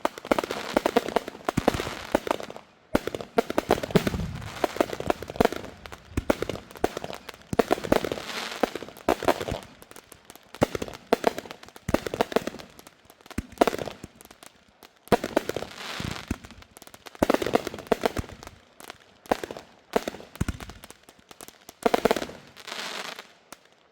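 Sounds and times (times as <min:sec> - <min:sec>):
fireworks bangs and crackle: 0:00.0 - 0:23.9.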